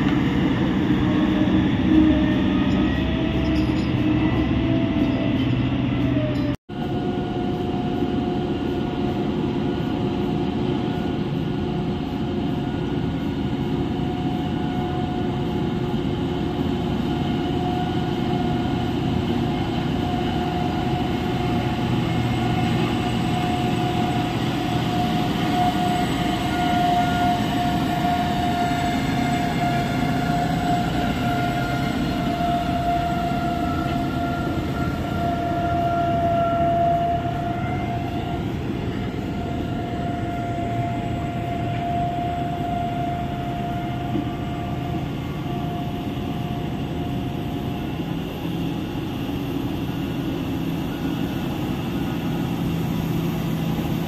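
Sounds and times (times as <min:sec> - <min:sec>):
diesel engines rumbling: 0:00.0 - 0:06.6, 0:14.6 - 0:54.0
high drivetrain whine: 0:00.0 - 0:54.0.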